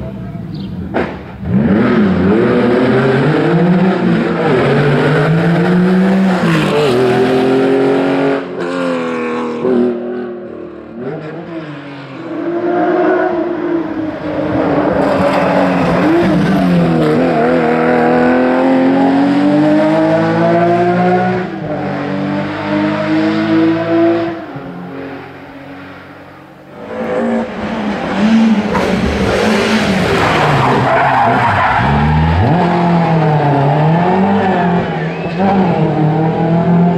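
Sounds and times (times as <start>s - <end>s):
rally car engine revving: 0.8s - 36.9s.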